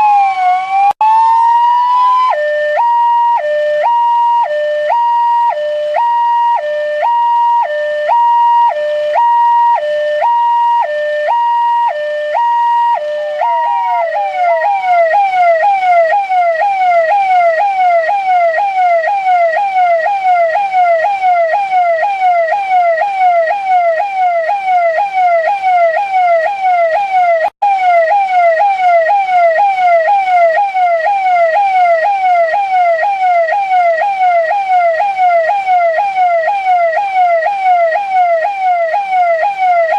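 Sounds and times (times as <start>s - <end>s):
police siren: 0.0s - 39.9s.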